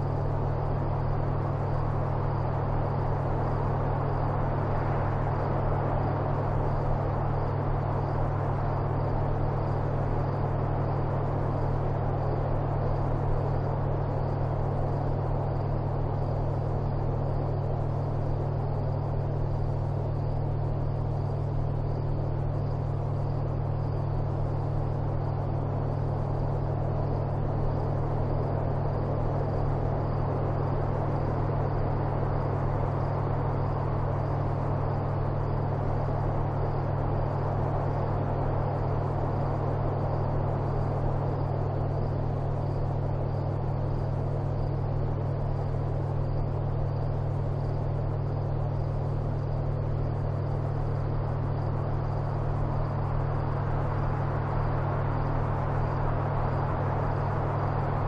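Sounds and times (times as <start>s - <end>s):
steady low hum and rumble: 0.0s - 58.0s.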